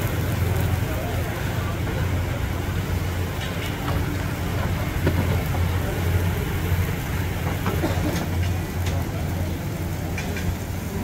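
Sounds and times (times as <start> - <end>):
food sizzling on grill: 0.0 - 11.0.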